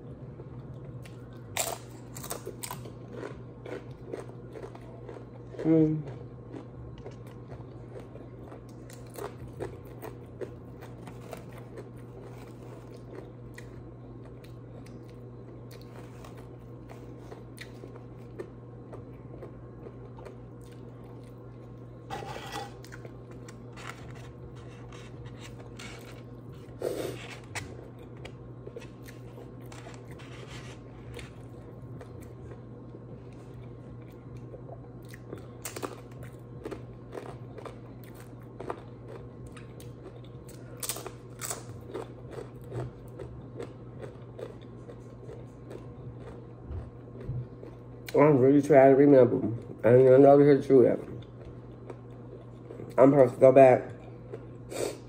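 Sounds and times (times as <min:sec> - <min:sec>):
steady low hum: 0:00.0 - 0:55.0
chips being chewed: 0:00.8 - 0:32.6, 0:33.3 - 0:48.2.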